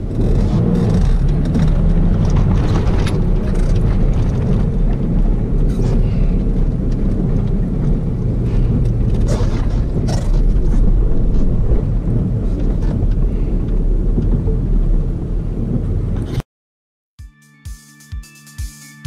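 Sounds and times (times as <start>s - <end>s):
knocks and rattles: 0.0s - 16.3s
car engine rumble from inside: 0.0s - 16.4s.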